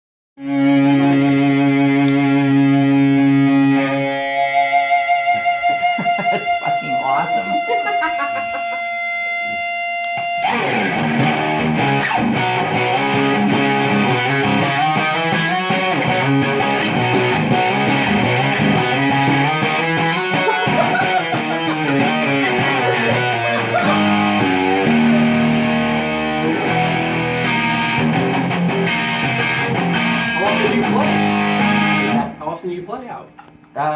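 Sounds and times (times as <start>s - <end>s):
electric guitar picked notes: 0.4s - 32.4s.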